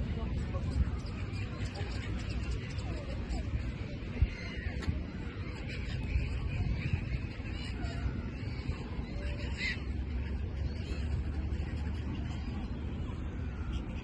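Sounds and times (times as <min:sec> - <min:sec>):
gulls calling: 0:00.2 - 0:14.0.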